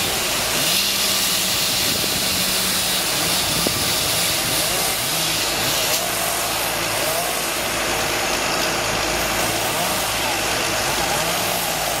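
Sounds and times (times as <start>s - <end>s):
loader engine revving: 0.0s - 12.0s.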